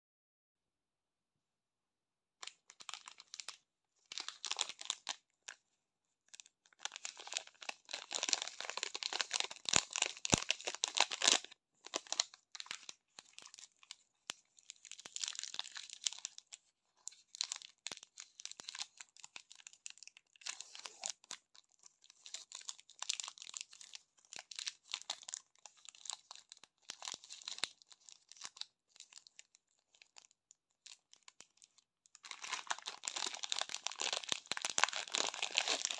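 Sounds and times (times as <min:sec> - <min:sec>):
plastic wrapper crinkling: 0:02.4 - 0:05.6, 0:06.3 - 0:35.9.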